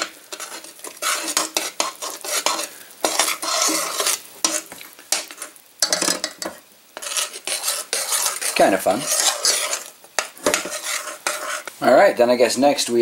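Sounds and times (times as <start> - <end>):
spoon scraping saucepan: 0.0 - 11.8.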